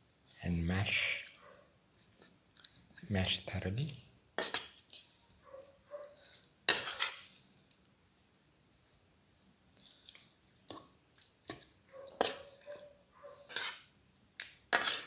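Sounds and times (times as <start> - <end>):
wet squishing of mashing potato: 0.1 - 3.6, 4.3 - 15.0.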